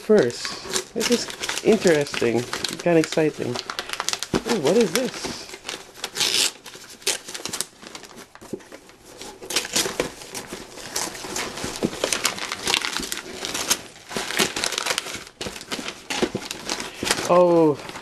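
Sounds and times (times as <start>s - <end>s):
plastic wrap and tissue paper crinkling: 0.0s - 18.0s.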